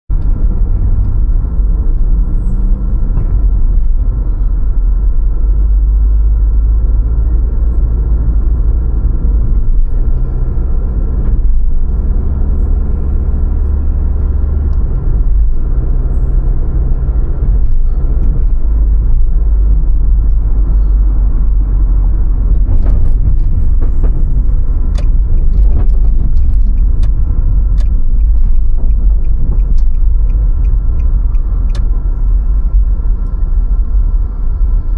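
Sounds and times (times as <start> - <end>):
car road and engine rumble: 0.1 - 34.9.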